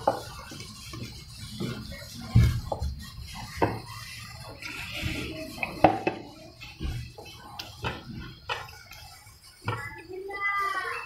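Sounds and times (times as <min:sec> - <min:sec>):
metal spoon stirring batter in bowl: 0:00.0 - 0:11.0.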